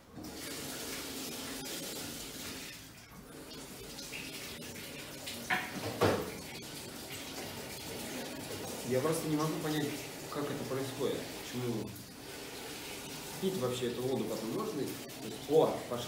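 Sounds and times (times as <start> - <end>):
water fizzing: 0.0 - 16.0.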